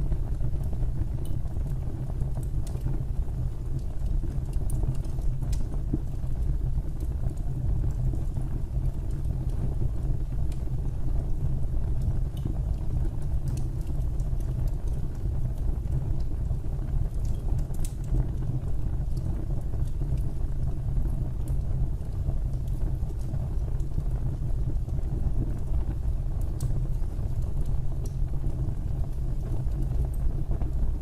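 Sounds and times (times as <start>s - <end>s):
fire burning low rumble: 0.0s - 31.0s
fire crackles and pops: 0.0s - 31.0s.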